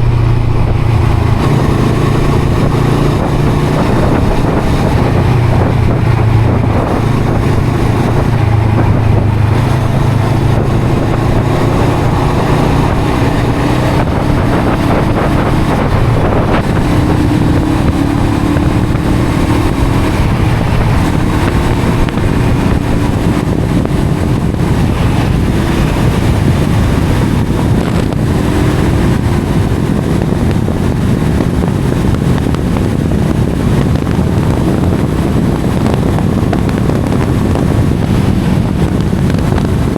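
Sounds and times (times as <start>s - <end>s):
motorcycle engine hum: 0.0s - 39.9s
wind noise on microphone: 0.0s - 39.9s.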